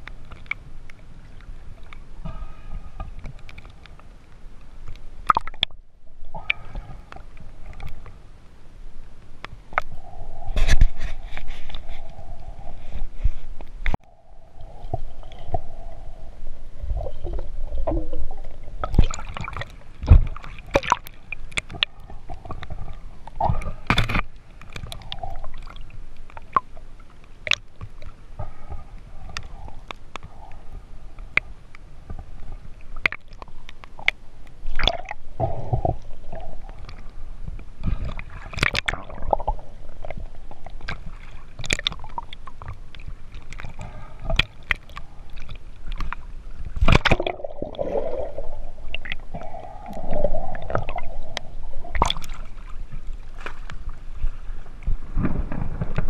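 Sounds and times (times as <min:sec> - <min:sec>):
water splashes: 0:00.0 - 0:08.2, 0:16.8 - 0:56.0
water sloshing and gurgling: 0:00.0 - 0:56.0.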